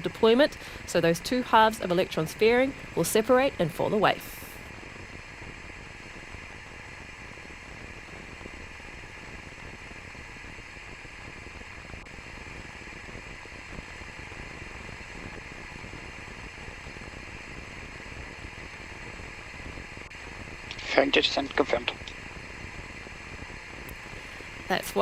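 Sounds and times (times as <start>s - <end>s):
faint low rumble: 0.0s - 25.0s
static hiss: 0.0s - 25.0s.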